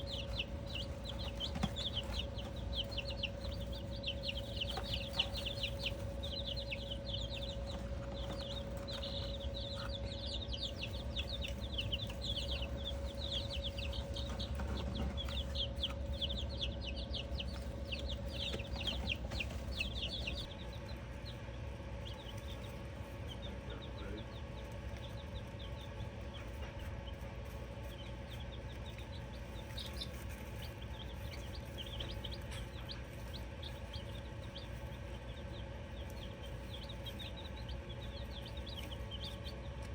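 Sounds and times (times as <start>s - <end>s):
baby chicks peeping: 0.0s - 39.9s
steady hum: 0.0s - 39.9s.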